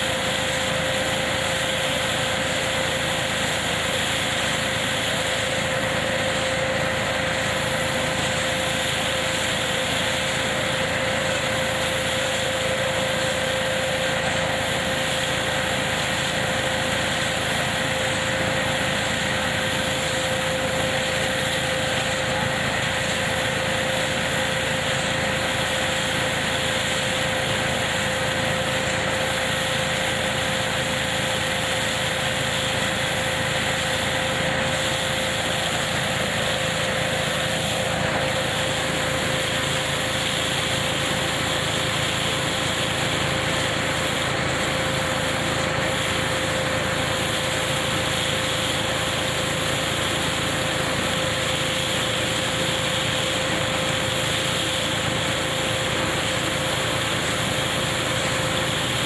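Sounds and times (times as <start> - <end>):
harvesting machine running: 0.0 - 59.0.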